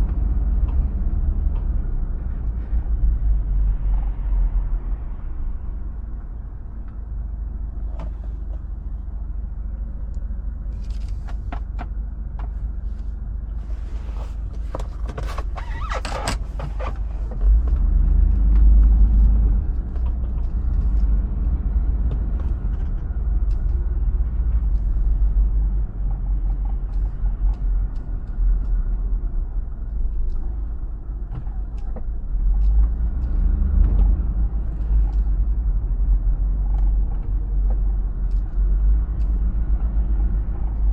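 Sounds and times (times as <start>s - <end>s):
car engine rumbling while driving: 0.0s - 40.9s.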